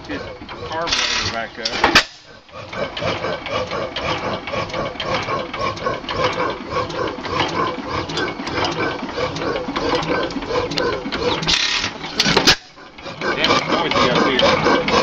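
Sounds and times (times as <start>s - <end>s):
gas engine clattering: 0.0s - 15.0s.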